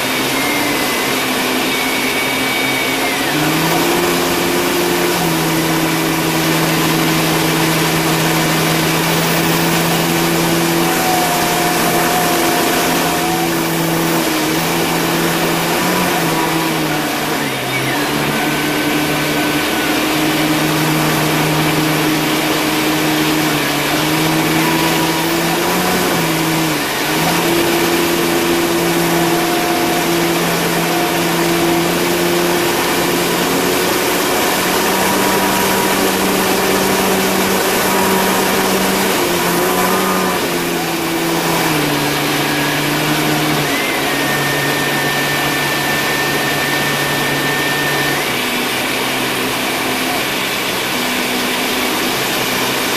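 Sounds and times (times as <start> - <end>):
dense rush of noise: 0.0 - 52.9
propeller plane engine droning: 0.0 - 52.9.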